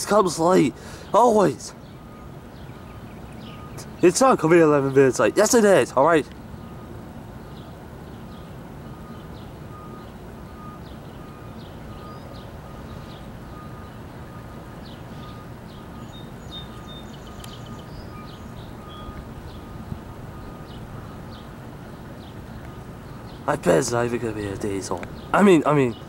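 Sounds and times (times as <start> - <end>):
distant diesel train rumble: 0.0 - 26.0
songbirds chirping: 0.0 - 26.0.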